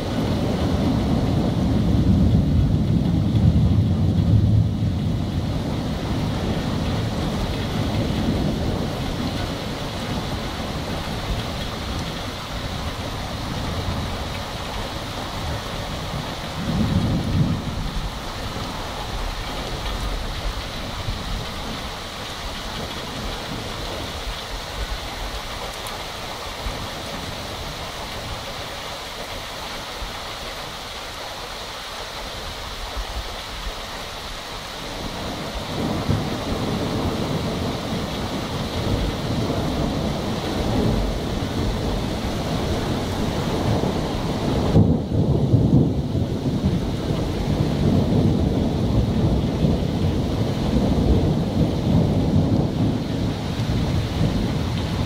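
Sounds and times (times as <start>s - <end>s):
thunder rolling: 0.0s - 24.9s, 34.9s - 55.0s
rain falling steadily: 0.0s - 55.0s.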